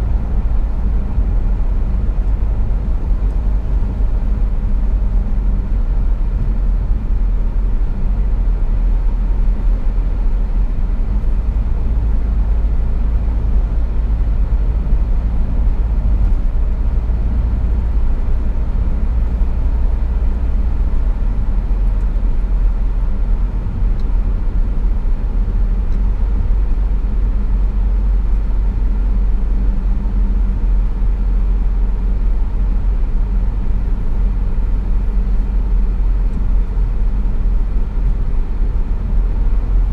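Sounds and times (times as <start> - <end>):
car driving heard from inside: 0.0 - 39.9.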